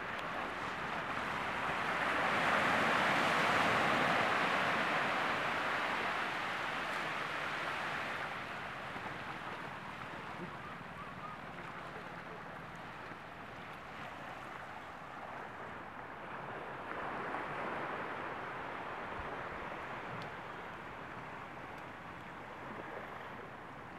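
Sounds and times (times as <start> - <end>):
small waves washing on sand: 0.0 - 23.9.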